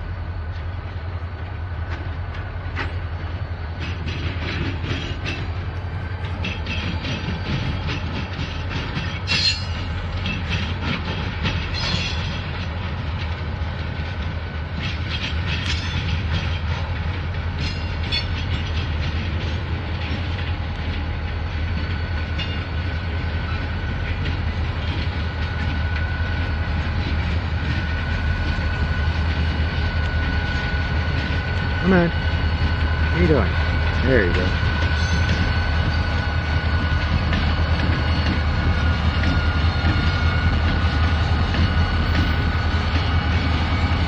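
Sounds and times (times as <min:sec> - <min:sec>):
diesel locomotive engine drone: 0:00.0 - 0:44.0
wheels clicking over rail joints: 0:00.5 - 0:44.0.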